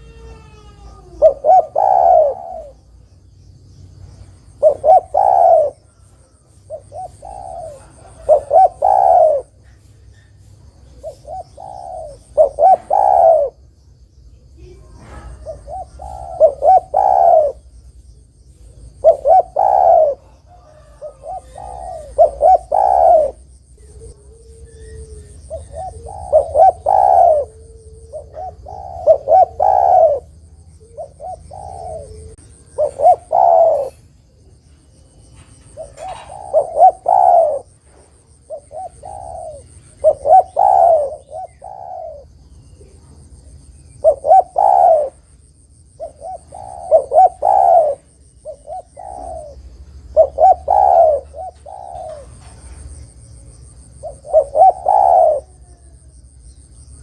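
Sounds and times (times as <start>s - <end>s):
dove cooing: 0.0s - 3.1s, 4.2s - 13.6s, 14.6s - 17.8s, 18.5s - 57.0s.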